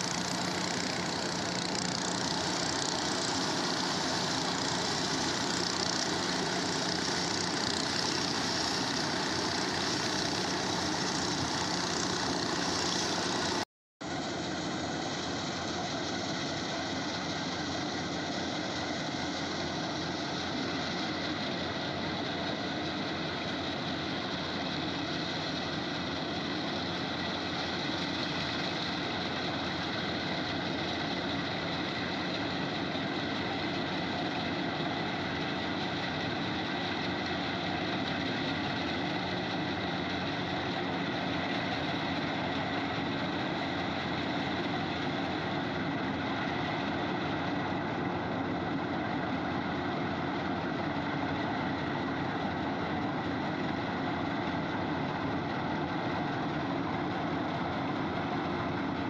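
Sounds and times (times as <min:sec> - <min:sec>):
combine harvester machinery drone: 0:00.0 - 0:59.0.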